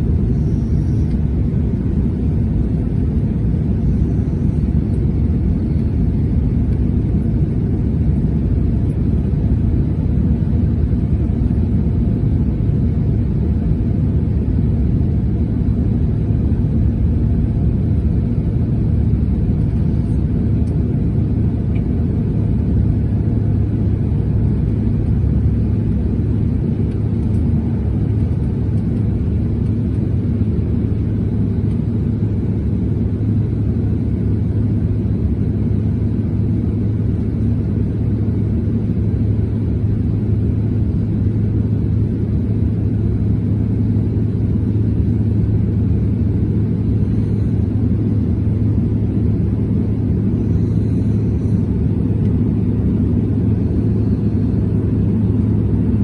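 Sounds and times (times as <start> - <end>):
aircraft cabin rumble: 0.0 - 56.0
steady low hum: 0.0 - 56.0.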